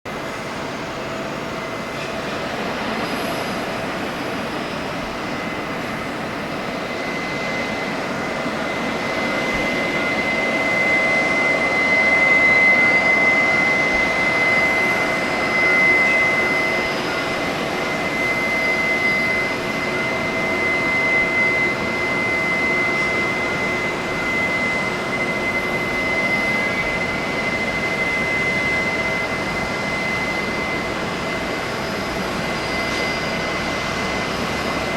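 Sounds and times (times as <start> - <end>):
high-pitched turbine whine: 0.1 - 34.9
jet engines running: 0.1 - 34.9.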